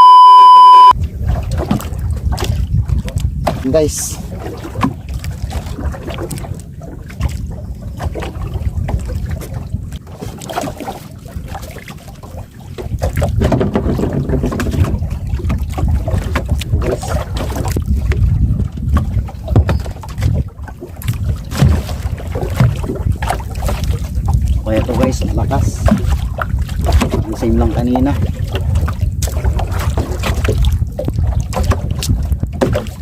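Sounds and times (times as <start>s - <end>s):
water moving around boat: 0.0s - 33.0s
wind rumbling on microphone: 1.0s - 33.0s.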